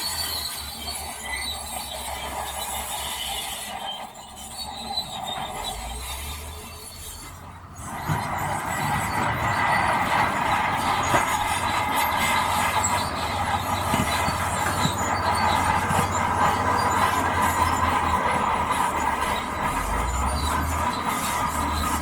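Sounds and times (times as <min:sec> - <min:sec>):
bulldozer diesel engine: 0:00.0 - 0:22.0
steel tracks squealing and clanking: 0:00.0 - 0:22.0.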